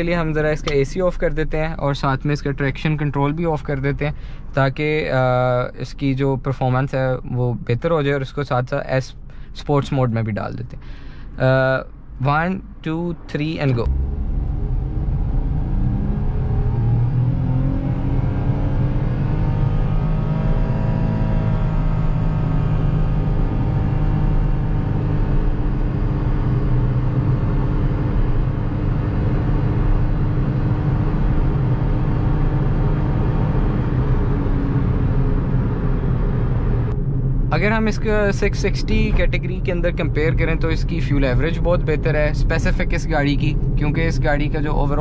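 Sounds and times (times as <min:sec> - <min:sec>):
car engine drone accelerating: 0:00.0 - 0:45.0
road noise: 0:00.0 - 0:45.0.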